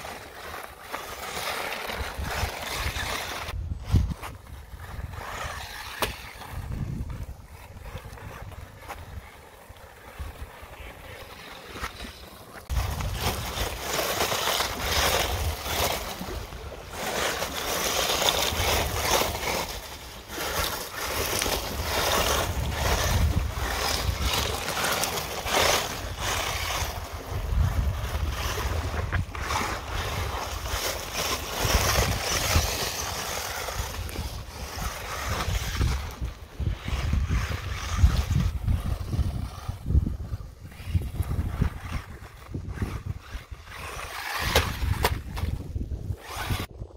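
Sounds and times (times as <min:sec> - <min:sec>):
toy car tyres crunching pebbles: 0:00.0 - 0:46.9
wind rumbling on microphone: 0:01.2 - 0:46.9.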